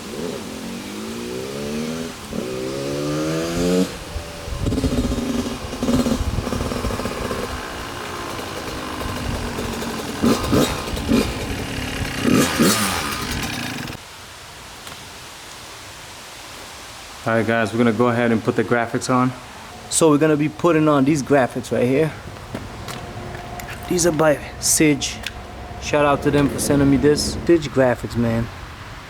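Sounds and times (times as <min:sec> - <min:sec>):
dirt bike engine revving: 0:00.0 - 0:14.0, 0:18.0 - 0:28.4.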